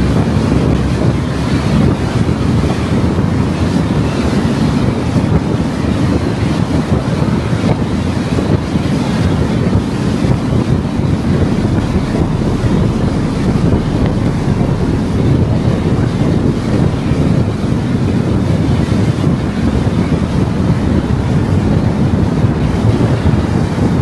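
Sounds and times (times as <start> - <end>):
car driving low rumble: 0.0 - 4.9, 9.3 - 24.0
wind rushing on microphone: 0.0 - 24.0.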